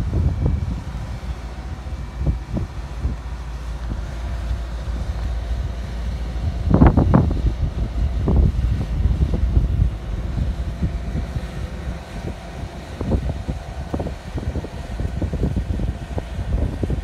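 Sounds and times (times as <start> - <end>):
train rolling with low rumble: 0.0 - 17.0.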